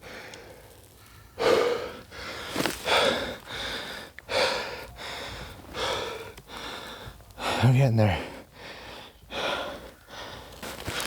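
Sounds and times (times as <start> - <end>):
man panting hard: 0.0 - 0.6, 1.4 - 11.0.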